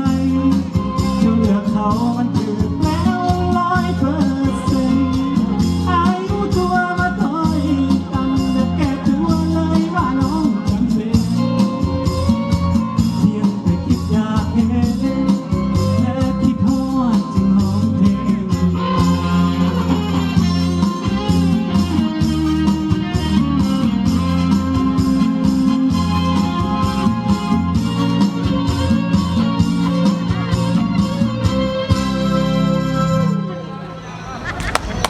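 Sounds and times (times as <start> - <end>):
live band music: 0.0 - 35.0.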